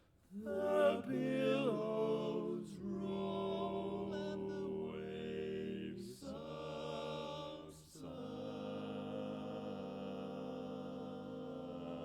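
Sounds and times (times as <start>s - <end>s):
barbershop quartet singing: 0.3s - 12.0s.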